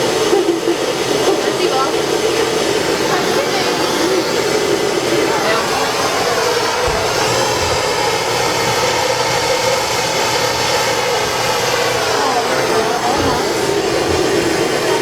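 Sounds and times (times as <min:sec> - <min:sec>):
propane torch burning: 0:00.0 - 0:15.0.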